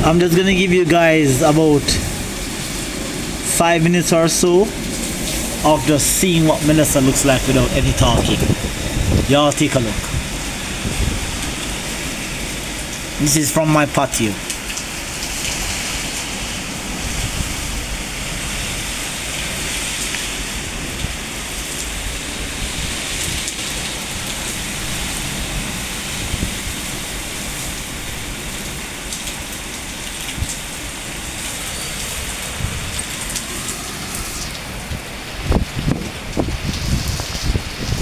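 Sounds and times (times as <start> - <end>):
heavy rain pouring: 0.0 - 38.0
low gusty rumbles: 0.0 - 38.0.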